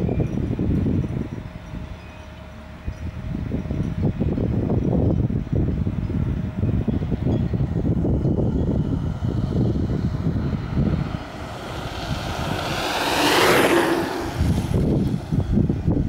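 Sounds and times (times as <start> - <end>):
electric bike motor whine passing: 0.0 - 16.0
wind buffeting microphone: 0.0 - 16.0.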